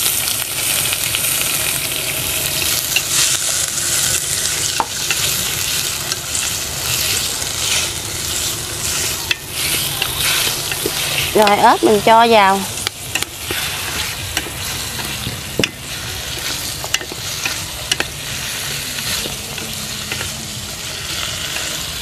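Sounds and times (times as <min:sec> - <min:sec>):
bamboo shoots sizzling in hot oil: 0:00.0 - 0:22.0
wooden spatula stirring: 0:02.6 - 0:21.9.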